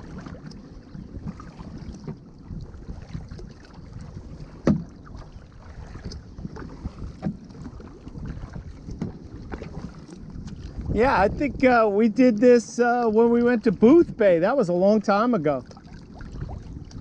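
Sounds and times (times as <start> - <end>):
paddle strokes in water: 0.0 - 17.0
wind on microphone: 0.0 - 17.0.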